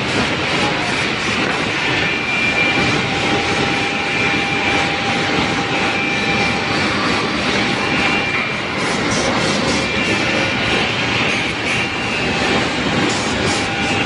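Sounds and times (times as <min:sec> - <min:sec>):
woodworking machine running: 0:00.0 - 0:14.0.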